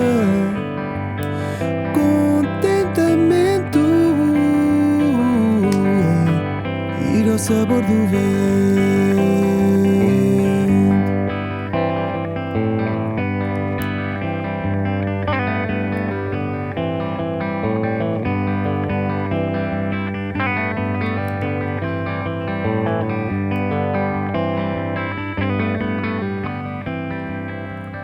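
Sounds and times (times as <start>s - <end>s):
plucked guitar lines: 0.0s - 28.0s.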